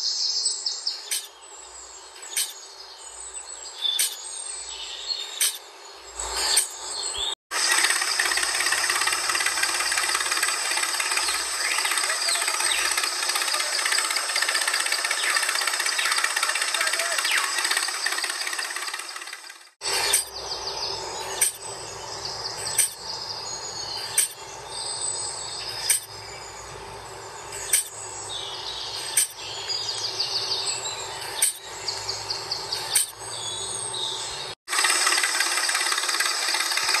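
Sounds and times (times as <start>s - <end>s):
birds chirping: 0.0s - 37.0s
steady outdoor hiss: 0.0s - 37.0s.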